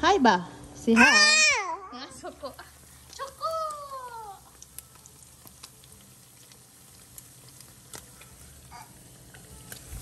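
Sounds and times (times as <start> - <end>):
meat sizzling in a pan: 0.9 - 10.0.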